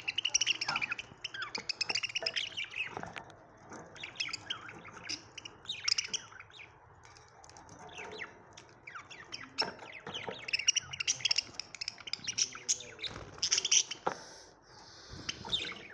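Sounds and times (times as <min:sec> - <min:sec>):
budgerigars chirping and chattering: 0:00.0 - 0:15.9.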